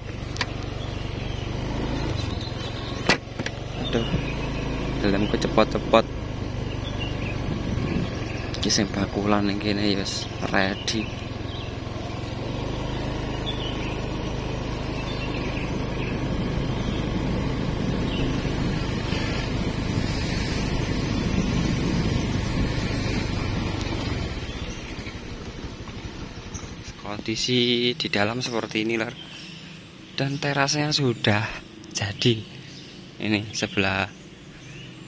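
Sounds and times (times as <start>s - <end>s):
motor engine running: 0.0s - 35.0s.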